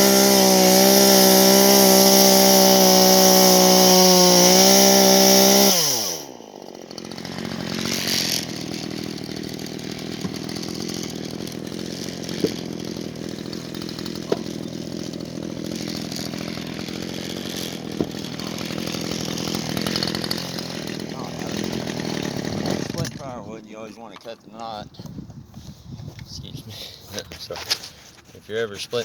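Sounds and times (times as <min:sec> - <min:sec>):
chainsaw engine idling: 0:00.0 - 0:24.0.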